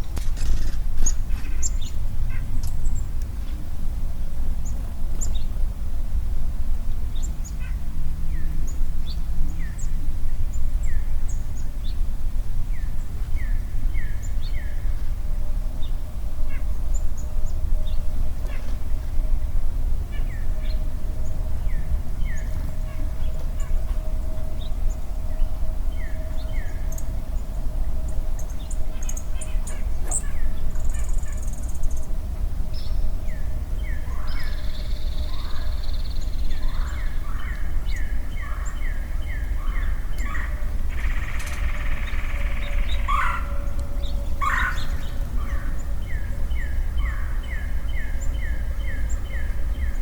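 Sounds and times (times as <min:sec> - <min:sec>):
low rumble: 0:00.0 - 0:50.0.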